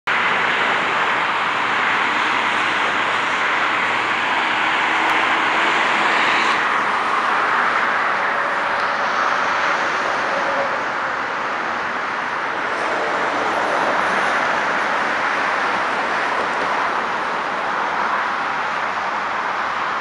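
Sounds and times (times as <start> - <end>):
heavy highway traffic: 0.0 - 20.0.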